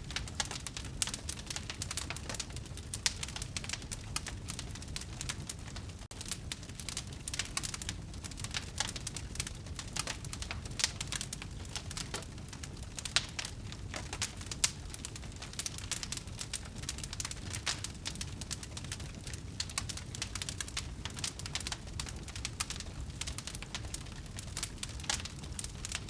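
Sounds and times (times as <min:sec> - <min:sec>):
low rumble of burning: 0:00.0 - 0:26.0
wood fire crackling: 0:00.0 - 0:26.0.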